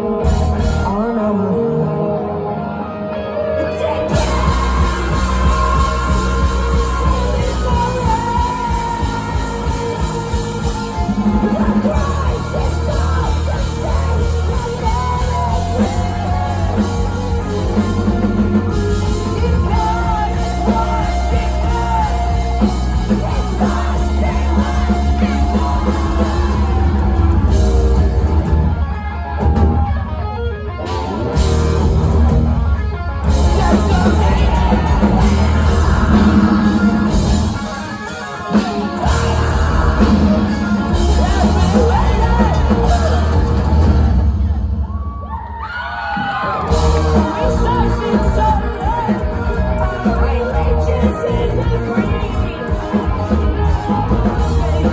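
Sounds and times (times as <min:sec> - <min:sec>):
person singing and yelling: 0:00.0 - 0:30.3, 0:32.8 - 0:44.0, 0:46.1 - 0:54.9
rock band playing live: 0:00.0 - 0:54.9.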